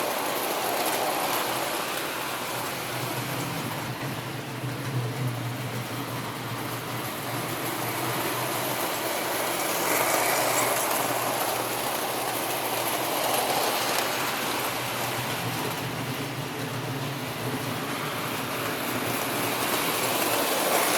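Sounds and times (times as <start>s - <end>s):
toy train rolling rumble: 0.0s - 20.9s.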